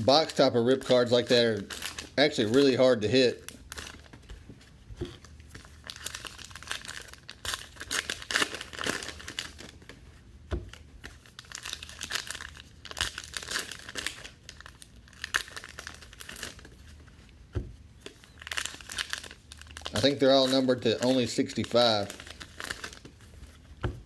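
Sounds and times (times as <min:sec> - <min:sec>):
wrappers crinkling and tearing: 0:00.1 - 0:04.4, 0:05.1 - 0:10.0, 0:10.7 - 0:17.0, 0:18.0 - 0:23.8
cards being handled: 0:00.7 - 0:24.0.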